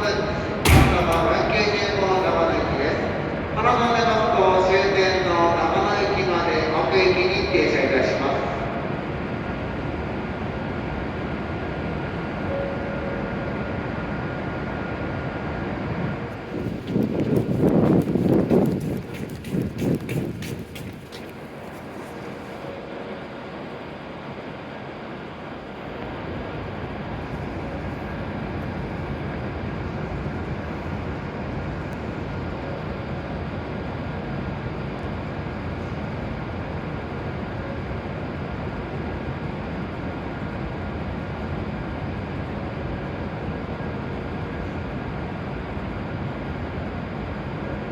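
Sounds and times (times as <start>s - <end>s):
train equipment hum and rumble: 0.0s - 47.9s.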